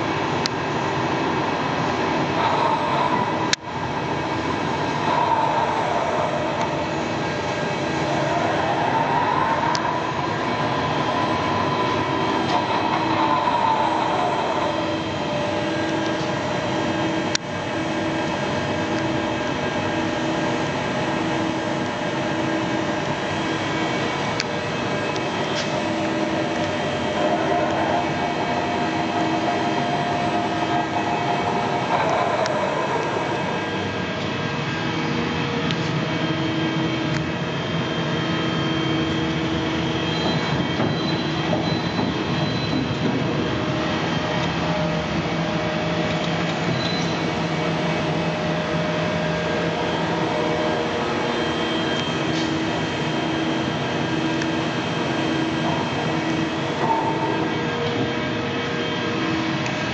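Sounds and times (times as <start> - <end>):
lathe machine noise: 0.0 - 59.9
machine whines: 0.0 - 59.9.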